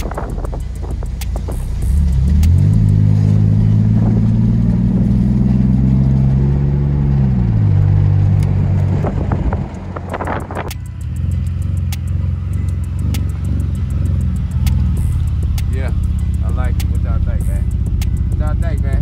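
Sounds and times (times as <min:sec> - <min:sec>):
engine revving from inside car: 0:00.0 - 0:19.0.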